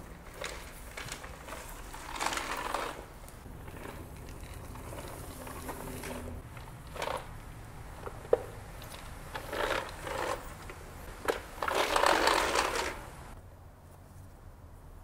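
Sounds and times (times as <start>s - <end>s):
spin broom brushes whirring: 0.0s - 13.4s.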